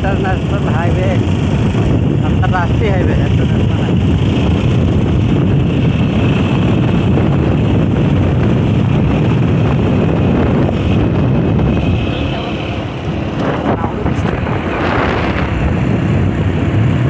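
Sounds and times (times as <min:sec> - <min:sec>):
motorcycle engine: 0:00.0 - 0:17.0
wind rushing over microphone: 0:00.0 - 0:17.0.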